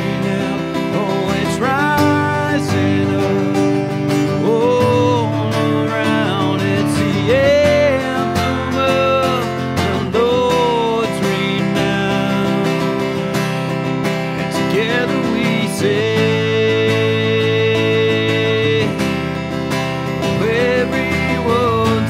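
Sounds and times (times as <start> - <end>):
man singing: 0.0 - 22.0
strummed acoustic guitar: 0.0 - 22.0.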